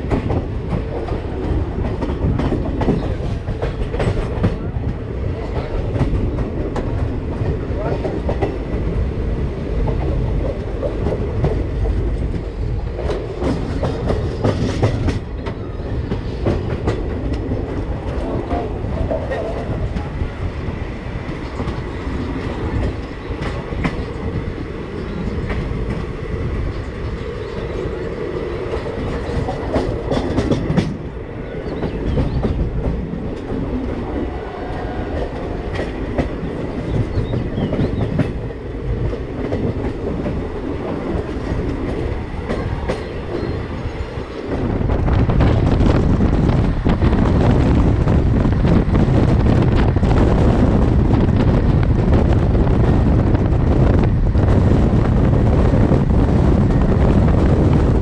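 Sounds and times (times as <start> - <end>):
wheels clickety-clack on rail joints: 0.0 - 58.0.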